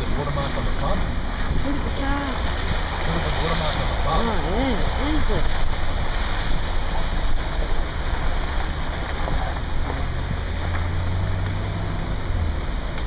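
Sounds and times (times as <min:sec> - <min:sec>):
rushing water in a street: 0:00.0 - 0:13.0.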